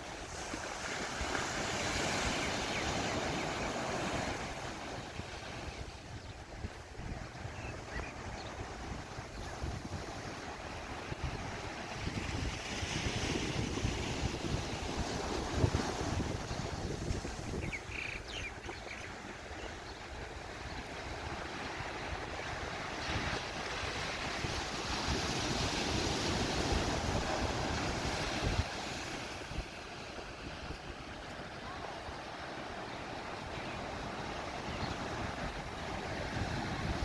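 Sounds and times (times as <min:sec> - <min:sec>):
ocean waves on shore: 0:00.0 - 0:37.0
wind buffeting microphone: 0:00.0 - 0:37.0.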